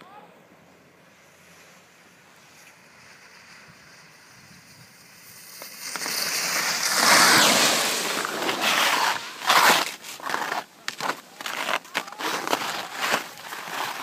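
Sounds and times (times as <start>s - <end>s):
skis hissing over packed snow: 1.0s - 14.0s.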